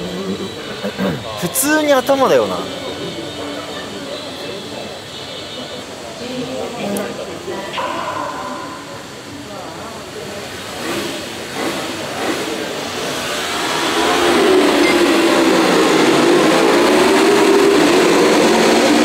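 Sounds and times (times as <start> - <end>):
motorcycle engines droning: 0.0 - 19.0.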